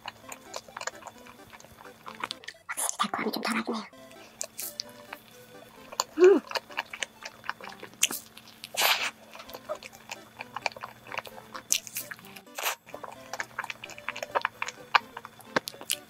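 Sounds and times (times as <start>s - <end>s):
chewing with wet mouth clicks: 0.0s - 16.0s
breathy bursts: 0.1s - 15.6s.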